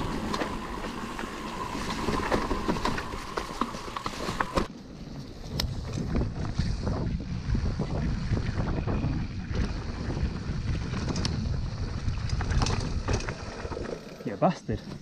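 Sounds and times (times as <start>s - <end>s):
wind buffeting microphone: 0.0s - 14.1s
bike rattling over bumps: 0.0s - 15.0s
bike tyres on dirt trail: 0.0s - 15.0s.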